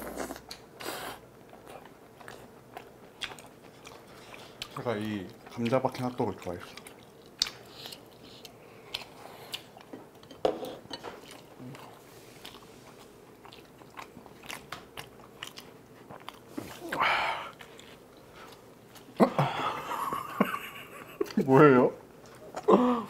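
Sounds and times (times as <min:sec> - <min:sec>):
soft chewing crunches: 0:00.0 - 0:19.2, 0:21.2 - 0:22.8.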